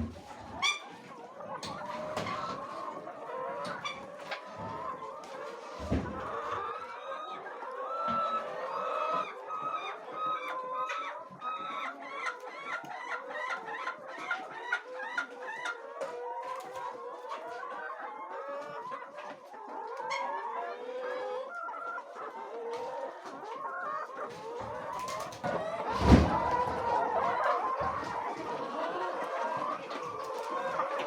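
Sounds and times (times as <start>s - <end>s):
hens clucking: 0.0s - 31.0s.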